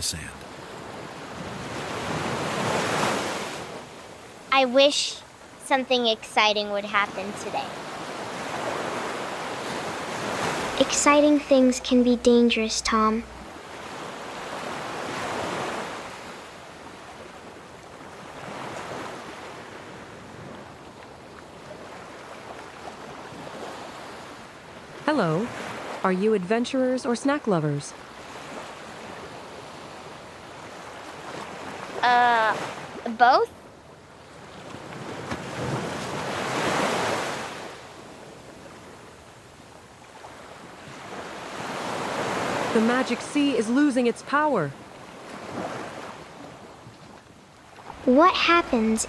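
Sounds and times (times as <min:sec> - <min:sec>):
ocean waves washing on beach: 0:00.0 - 0:49.0.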